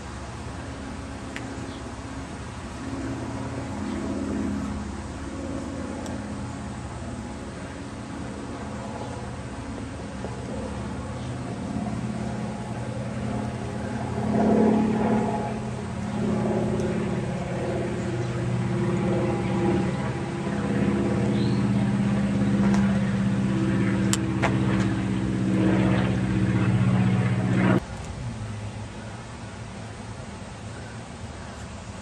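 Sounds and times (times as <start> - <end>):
engine humming: 0.0 - 32.0.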